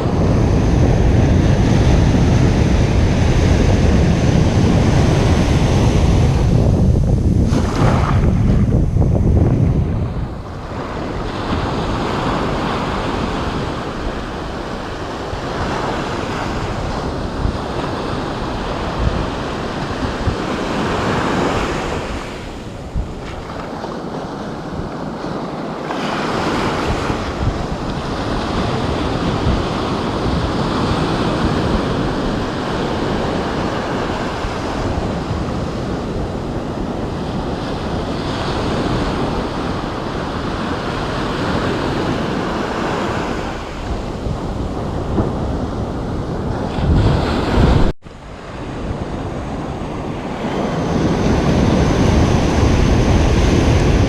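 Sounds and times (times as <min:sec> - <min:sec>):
ocean waves breaking: 0:00.0 - 0:54.0
wind buffeting microphone: 0:00.0 - 0:54.0.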